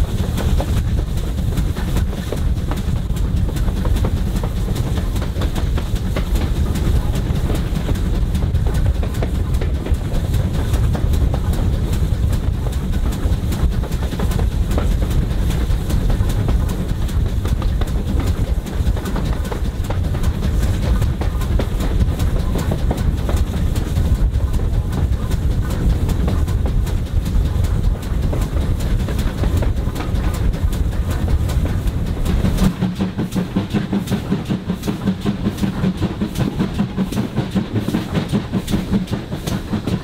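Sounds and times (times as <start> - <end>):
railway carriage rumbling: 0.0 - 40.0
wheel-on-rail clicks: 0.0 - 40.0.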